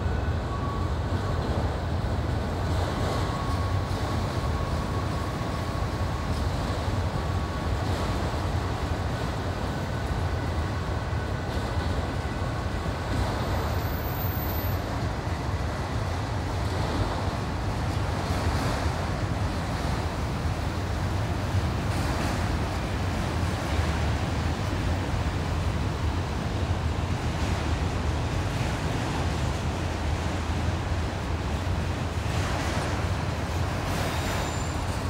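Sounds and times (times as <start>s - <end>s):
freight train rumble: 0.0s - 35.0s.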